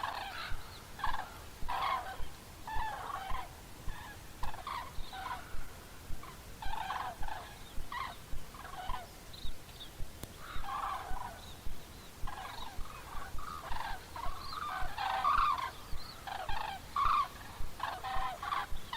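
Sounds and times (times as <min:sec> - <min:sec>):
large birds gabbling calls: 0:00.0 - 0:18.9.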